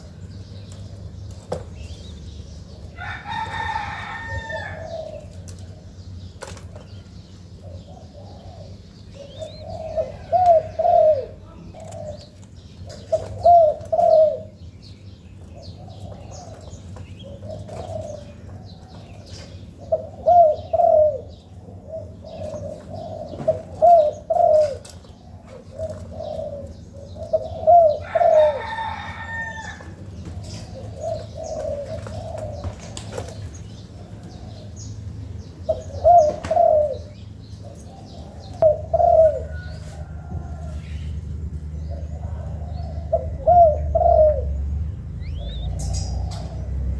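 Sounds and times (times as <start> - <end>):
doves cooing: 0.0 - 46.9
small birds chirping: 0.0 - 46.9.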